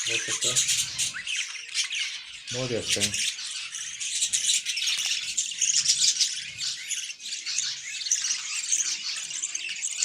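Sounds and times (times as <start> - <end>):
budgerigars chattering: 0.0 - 10.0.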